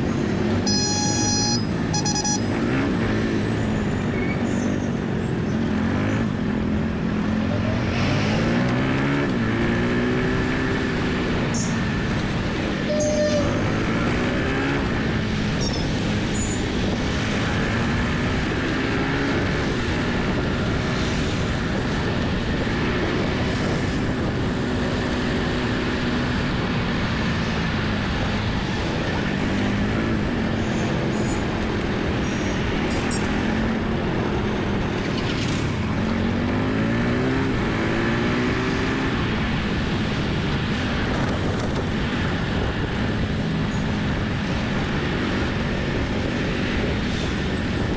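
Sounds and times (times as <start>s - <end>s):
motorbike engine: 0.0s - 47.9s
road and wind noise: 0.0s - 47.9s.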